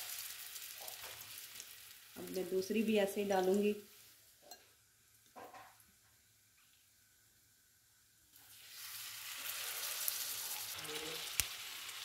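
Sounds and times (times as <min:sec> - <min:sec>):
patties sizzling in hot oil: 0:00.0 - 0:12.0.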